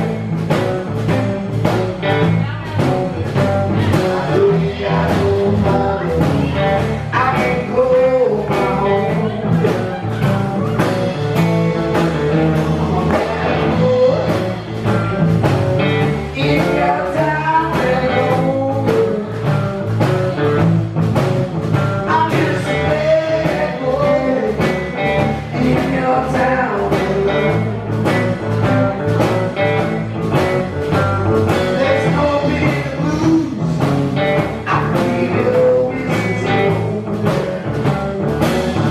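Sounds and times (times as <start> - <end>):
blues-rock band playing: 0.0 - 38.9
electric guitar: 0.0 - 38.9
steady drum beat: 0.0 - 38.9.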